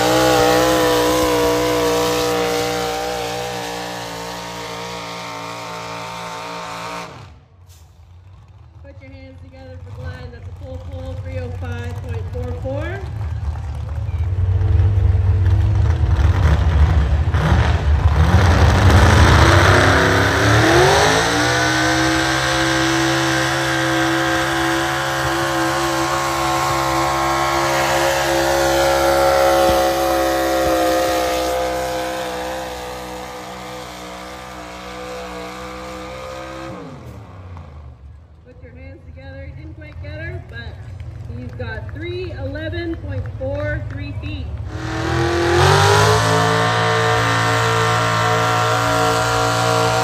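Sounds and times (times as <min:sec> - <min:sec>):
truck engine revving under load: 0:00.0 - 0:38.4, 0:42.9 - 0:50.0.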